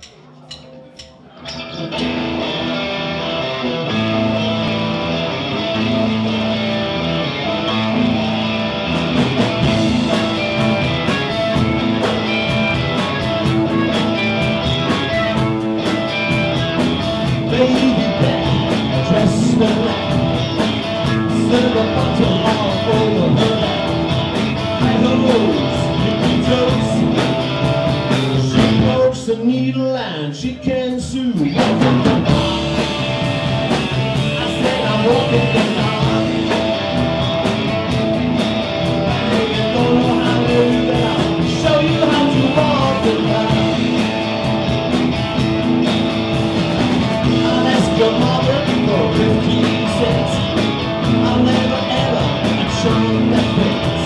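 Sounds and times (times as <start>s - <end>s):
drums and cymbals: 0.0s - 2.8s, 8.0s - 29.2s, 31.0s - 54.0s
electric guitar riff: 1.4s - 29.1s, 31.5s - 54.0s.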